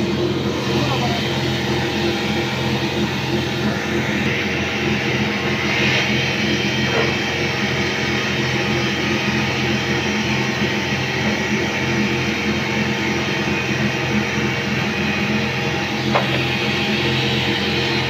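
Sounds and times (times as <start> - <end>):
machine humming and hissing: 0.0 - 18.0.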